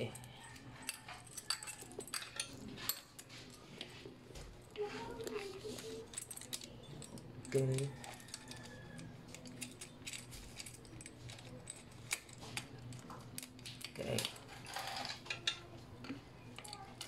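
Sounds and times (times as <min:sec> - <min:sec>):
small metal parts clicking: 0:00.0 - 0:03.9, 0:05.0 - 0:17.0.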